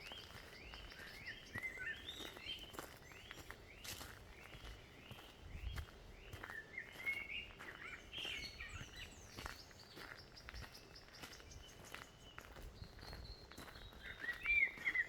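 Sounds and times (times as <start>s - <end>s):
birds warbling chirps: 0.0s - 15.0s.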